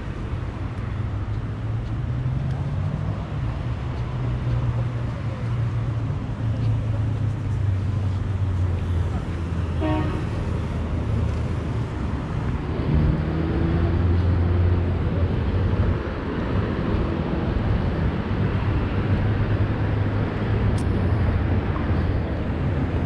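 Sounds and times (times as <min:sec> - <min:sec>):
city ambience: 0:00.0 - 0:23.0.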